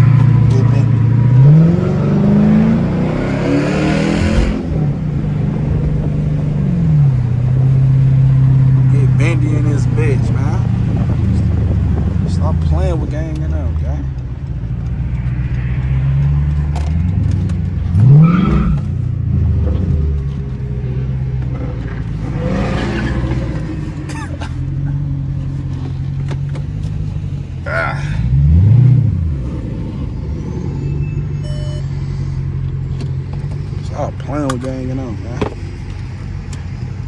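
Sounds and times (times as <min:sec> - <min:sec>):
car engine at highway speed: 0:00.0 - 0:37.0.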